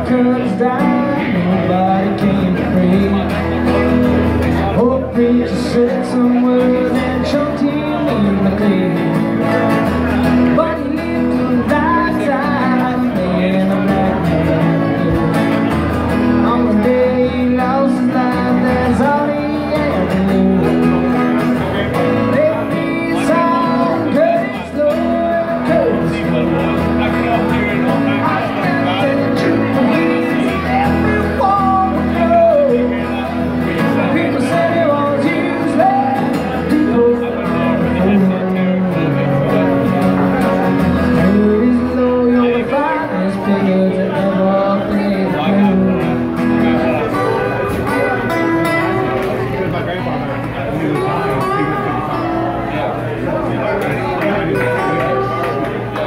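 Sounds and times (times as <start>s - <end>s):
man singing into a microphone: 0.0s - 49.0s
acoustic guitar strumming: 0.0s - 56.0s.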